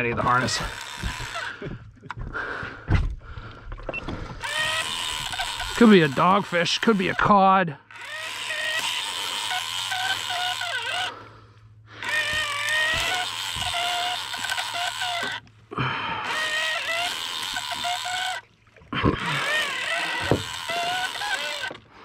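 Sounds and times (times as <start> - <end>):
fishing reel gears whining: 0.0 - 1.7, 4.3 - 22.0
steady low hum: 0.0 - 22.0.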